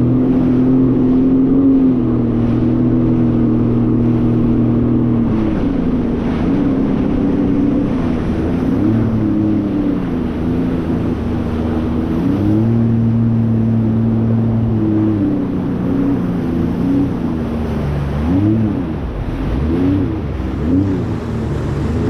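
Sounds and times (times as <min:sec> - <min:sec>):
jet ski engine running: 0:00.0 - 0:22.0
water rushing: 0:00.0 - 0:22.0.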